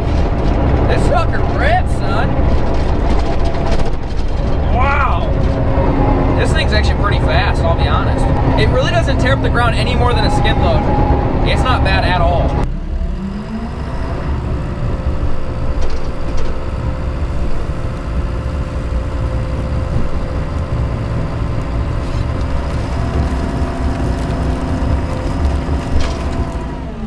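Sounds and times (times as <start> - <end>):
bulldozer diesel engine under load: 0.0 - 27.0.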